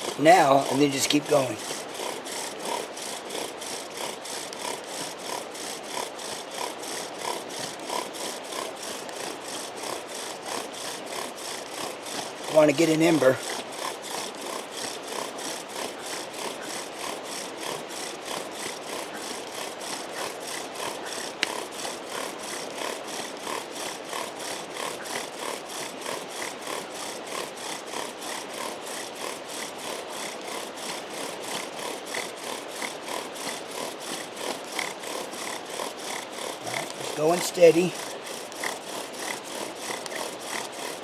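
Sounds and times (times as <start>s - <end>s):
bow drill rasping on wood: 0.0s - 41.0s.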